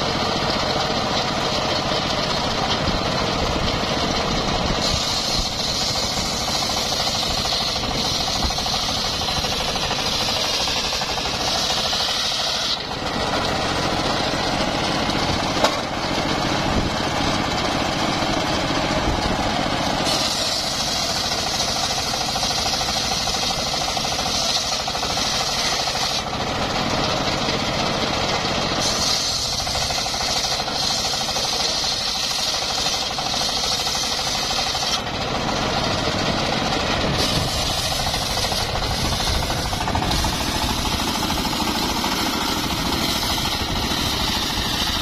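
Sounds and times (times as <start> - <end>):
circular sawmill cutting wood: 0.0 - 45.0.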